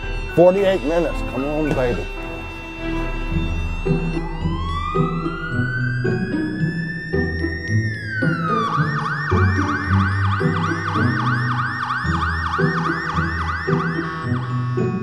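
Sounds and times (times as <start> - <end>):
ambulance siren wail and yelp: 0.0 - 15.0
background music: 0.0 - 15.0.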